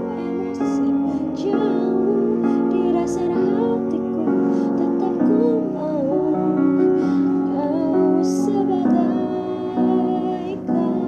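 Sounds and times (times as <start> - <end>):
sustained keyboard chords: 0.0 - 11.0
woman singing with vibrato: 0.0 - 11.0.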